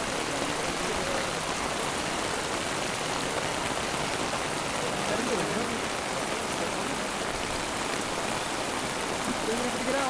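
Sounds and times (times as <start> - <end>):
heavy rain on water: 0.0 - 10.0.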